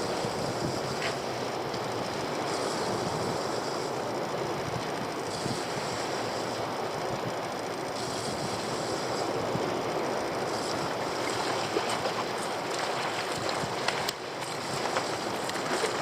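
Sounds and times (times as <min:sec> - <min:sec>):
water rushing around boat: 0:00.0 - 0:16.0
wind: 0:00.0 - 0:16.0.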